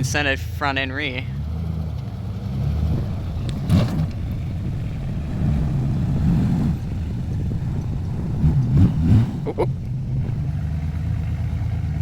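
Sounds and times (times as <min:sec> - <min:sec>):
vehicle engine rumbling under load: 0:00.0 - 0:12.0.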